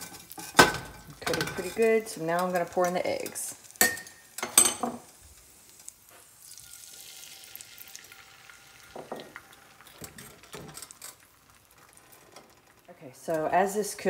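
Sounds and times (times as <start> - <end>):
eggs sizzling in grease: 0.0 - 14.0.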